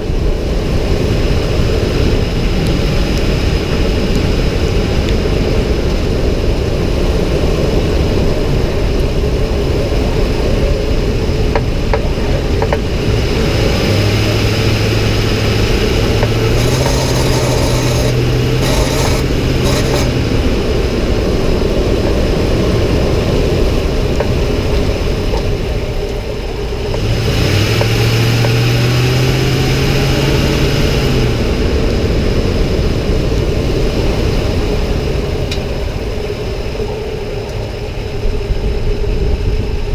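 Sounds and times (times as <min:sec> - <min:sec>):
engine and road noise: 0:00.0 - 0:39.9
low droning hum rising in pitch: 0:00.0 - 0:39.9.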